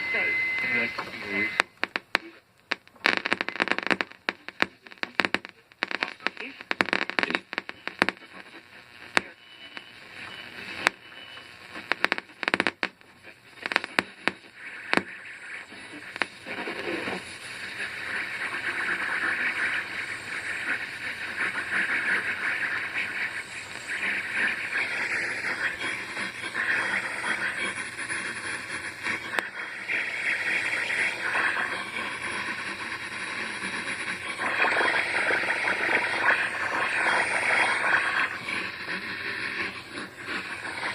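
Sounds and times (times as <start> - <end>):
radio static crackling and hissing: 0.0 - 40.9.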